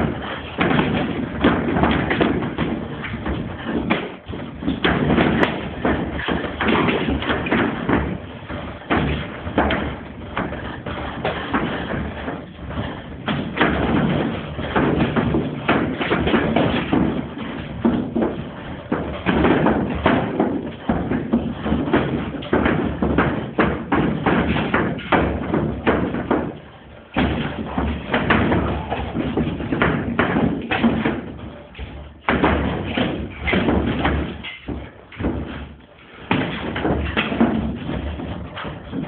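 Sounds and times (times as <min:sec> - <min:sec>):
boxing gloves thudding: 0:00.0 - 0:39.0
feet moving on gym floor: 0:00.0 - 0:39.0.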